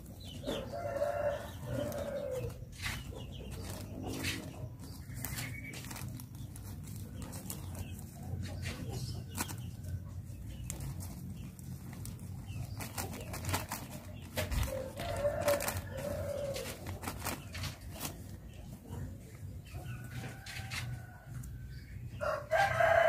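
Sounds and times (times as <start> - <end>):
rustles and clicks: 0.0 - 21.6.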